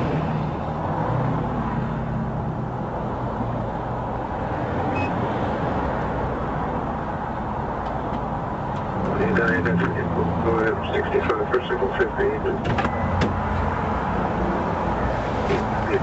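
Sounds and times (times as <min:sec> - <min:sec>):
roadside traffic noise: 0:00.0 - 0:16.0
vehicle engine humming: 0:00.0 - 0:16.0.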